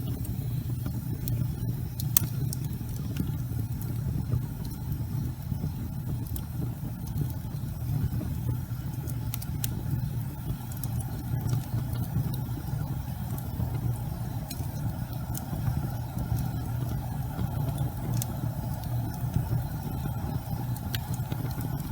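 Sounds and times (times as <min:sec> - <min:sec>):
low rumble of fire: 0:00.0 - 0:21.9
wood fire crackling and popping: 0:00.0 - 0:21.9.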